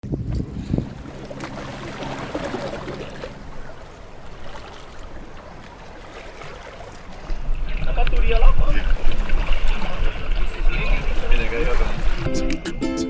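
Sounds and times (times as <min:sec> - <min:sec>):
water washing along hull: 0:00.0 - 0:12.8
motorboat engine hum: 0:00.0 - 0:13.0.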